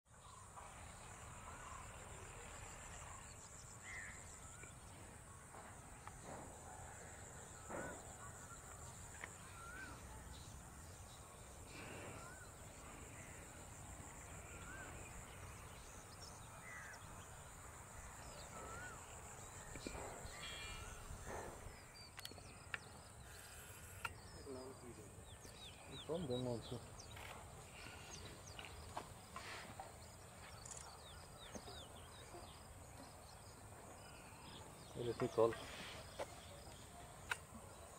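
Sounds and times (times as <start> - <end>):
bird chirping: 0.1 - 37.9
harsh bird calls: 0.3 - 37.9.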